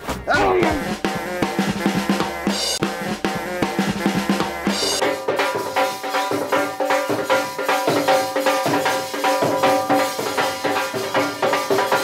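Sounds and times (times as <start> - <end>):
dance music with dhol drumming: 0.7 - 12.0.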